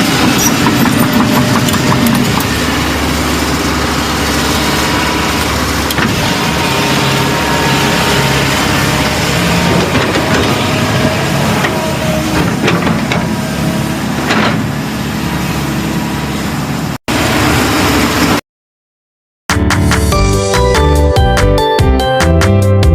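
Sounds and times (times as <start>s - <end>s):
heavy machinery engine running: 0.0s - 18.4s.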